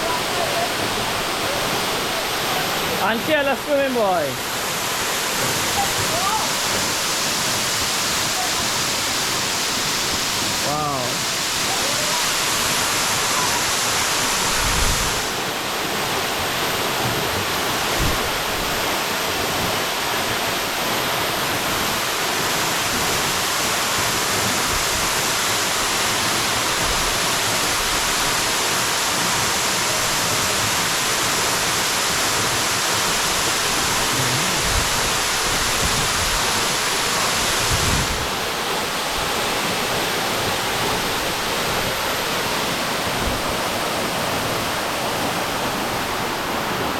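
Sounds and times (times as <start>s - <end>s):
waterfall rushing into pool: 0.0s - 46.9s.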